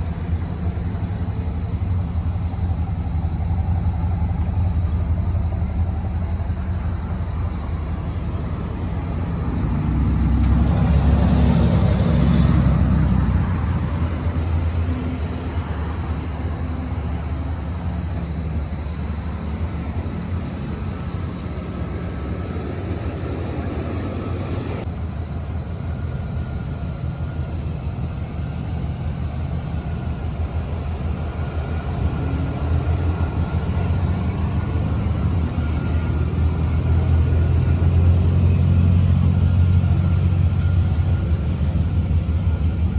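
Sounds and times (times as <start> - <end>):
car engine rumbling: 0.0 - 26.5, 28.0 - 42.9.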